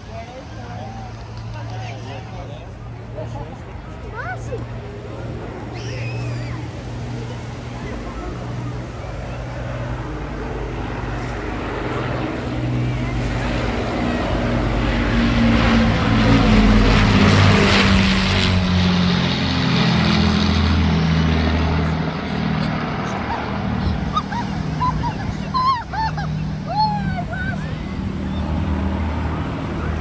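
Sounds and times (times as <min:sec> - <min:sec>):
piston engine aircraft droning: 0:00.0 - 0:30.0.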